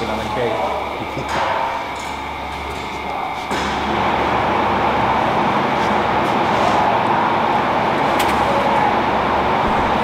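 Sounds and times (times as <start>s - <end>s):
machinery drone: 0.0s - 10.0s.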